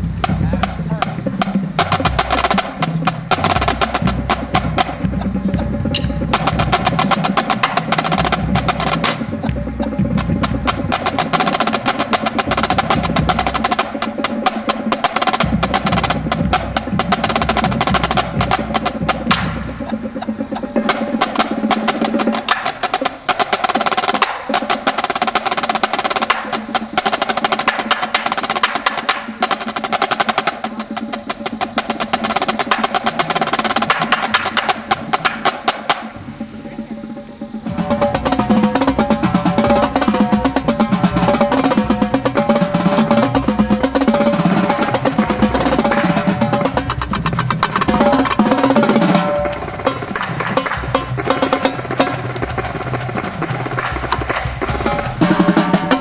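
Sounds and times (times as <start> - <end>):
marching snare drums: 0.0 - 56.0.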